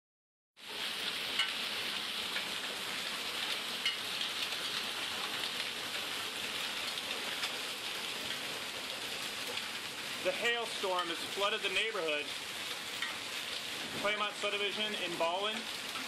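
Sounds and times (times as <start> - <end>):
heavy rain falling: 0.6 - 16.0.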